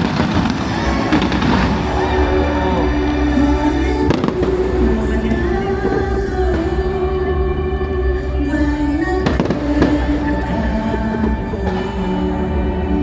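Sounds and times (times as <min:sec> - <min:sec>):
fireworks bursting: 0:00.0 - 0:12.2
music with long held notes: 0:00.0 - 0:13.0.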